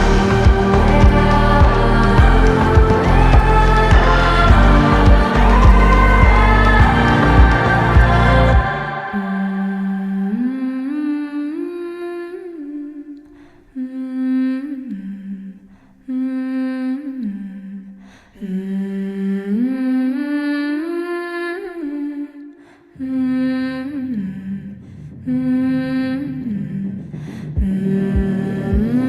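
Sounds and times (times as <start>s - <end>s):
hummed vocal melody: 0.0s - 29.0s.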